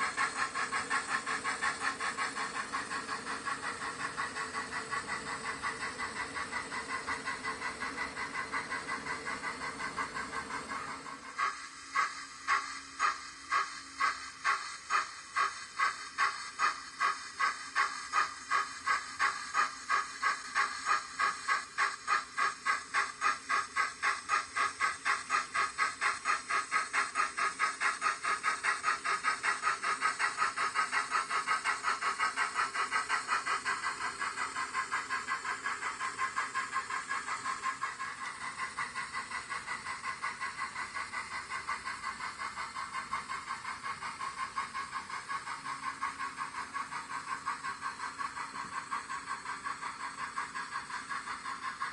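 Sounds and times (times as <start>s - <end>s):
model steam engine chuffing: 0.0s - 51.9s.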